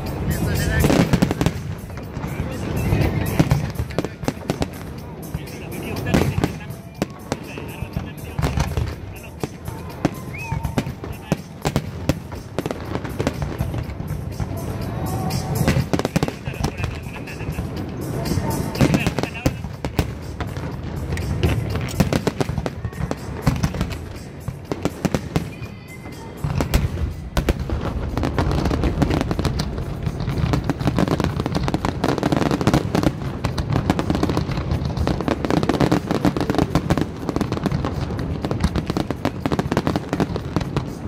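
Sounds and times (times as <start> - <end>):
fireworks bangs and crackling bursts: 0.0 - 41.0.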